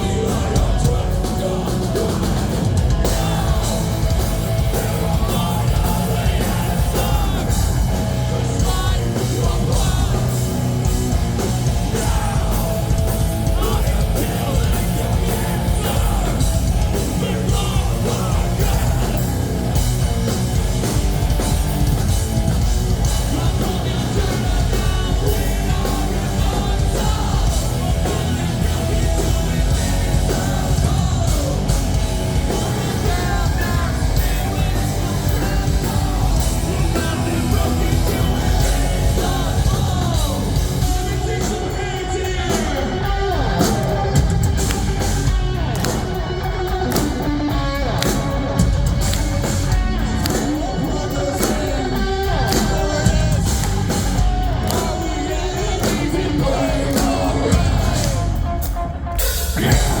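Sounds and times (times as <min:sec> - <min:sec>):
person singing and shouting: 0:00.0 - 0:19.8, 0:22.9 - 1:00.0
live rock band playing: 0:00.0 - 1:00.0.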